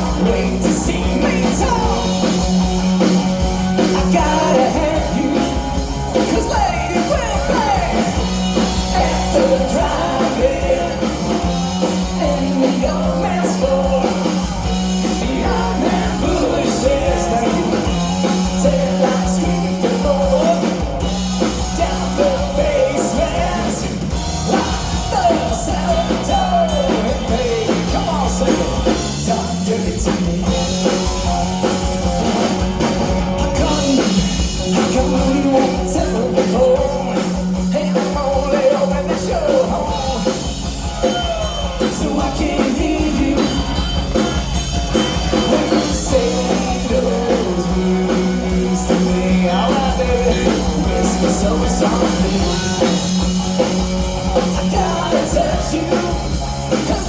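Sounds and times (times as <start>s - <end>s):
person singing: 0.0s - 2.7s, 3.6s - 31.7s, 33.2s - 57.0s
live rock band playing: 0.0s - 57.0s.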